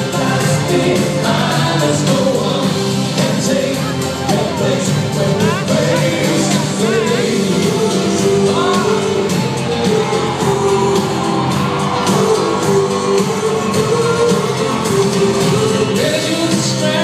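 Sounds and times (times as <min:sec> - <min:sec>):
live pop song with band: 0:00.0 - 0:17.0.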